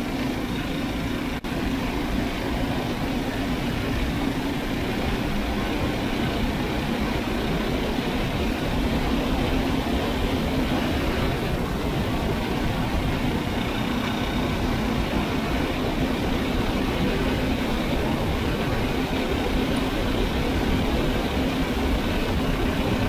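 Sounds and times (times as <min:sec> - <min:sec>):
single-cylinder engine running: 0:00.0 - 0:23.0.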